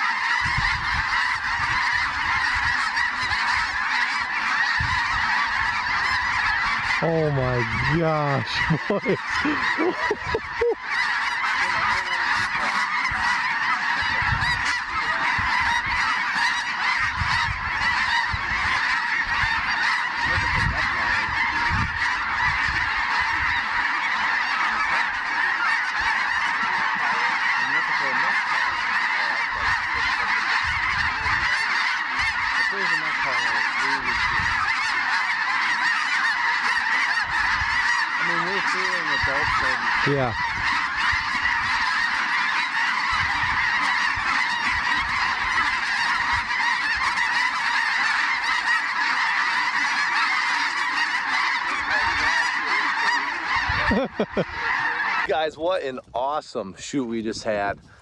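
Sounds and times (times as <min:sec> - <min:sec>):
geese honking and yelping: 0:00.0 - 0:58.0.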